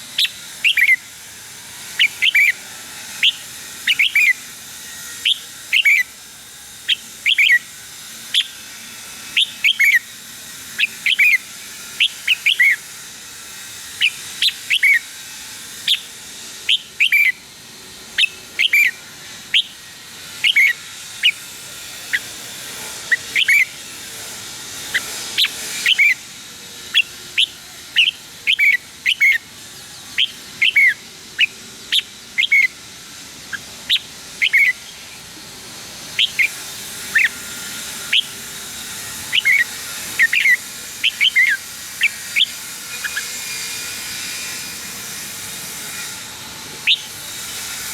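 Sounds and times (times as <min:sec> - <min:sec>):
bird singing whistled notes: 0:00.0 - 0:47.9.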